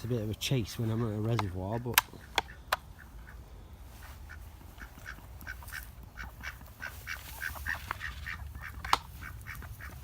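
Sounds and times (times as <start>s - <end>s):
ducks quacking: 0.0s - 10.0s.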